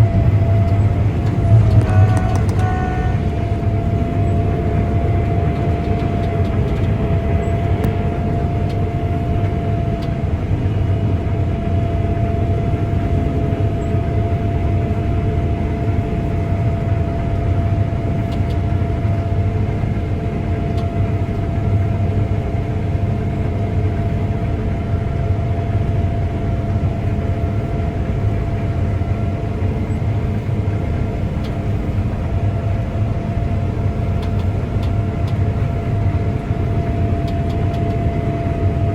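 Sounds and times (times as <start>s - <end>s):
combine harvester engine rumble: 0.0s - 38.9s
constant whine: 0.0s - 38.9s.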